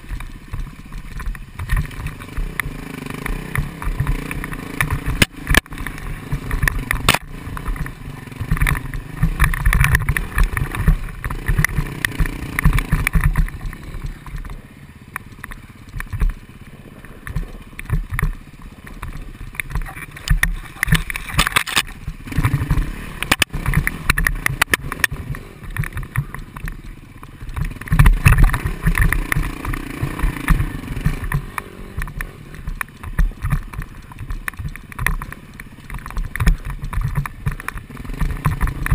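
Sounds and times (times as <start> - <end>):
dirt bike engine rumbling: 0.0 - 38.9
knocks and clatter over bumps: 0.0 - 38.9.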